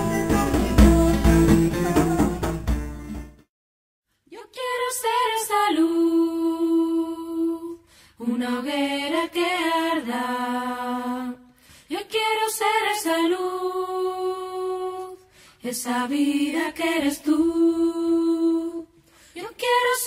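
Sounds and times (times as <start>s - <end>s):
person singing a cappella: 0.0s - 2.6s, 4.3s - 20.0s.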